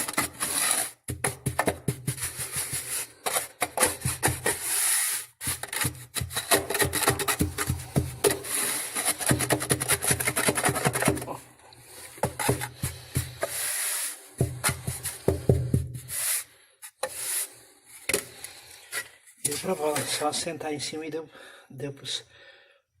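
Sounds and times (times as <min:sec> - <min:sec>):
masonry scraping and knocking: 0:00.0 - 0:16.2, 0:18.0 - 0:20.5.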